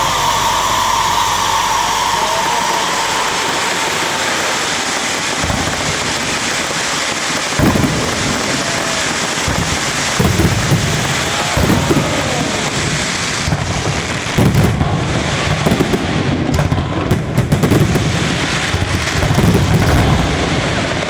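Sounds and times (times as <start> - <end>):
deep fireworks booms: 0.0 - 21.0
fireworks crackling hiss: 0.0 - 21.0.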